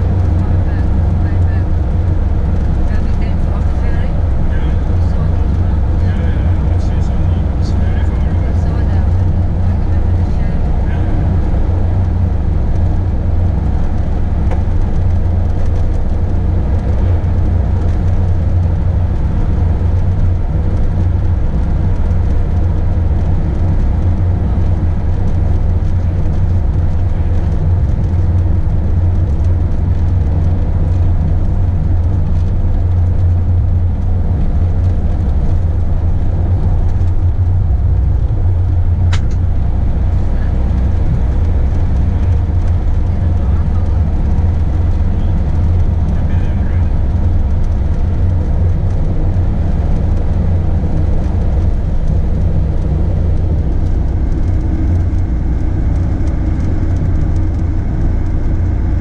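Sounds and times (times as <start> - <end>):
motorhome road and engine rumble: 0.0 - 59.0.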